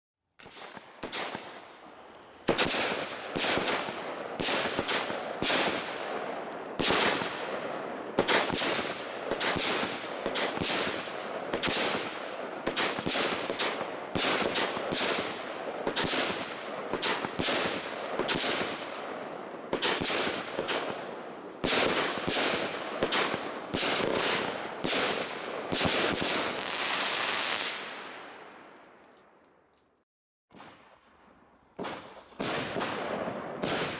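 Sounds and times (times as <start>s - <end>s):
fireworks launching and bursting: 0.4s - 29.0s, 30.5s - 33.9s
fireworks crackle: 0.4s - 29.8s.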